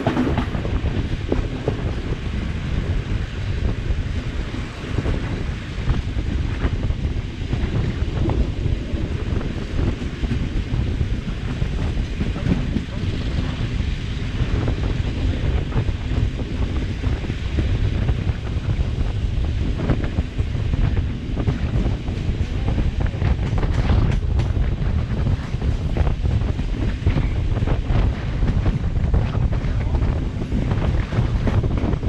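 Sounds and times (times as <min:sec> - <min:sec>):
train rumble: 0:00.0 - 0:32.0
wind buffeting microphone: 0:00.0 - 0:32.0.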